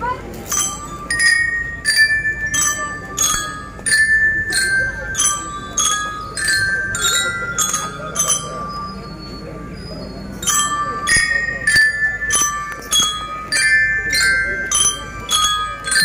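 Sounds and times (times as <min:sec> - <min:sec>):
glockenspiel ringing notes: 0:00.0 - 0:16.0.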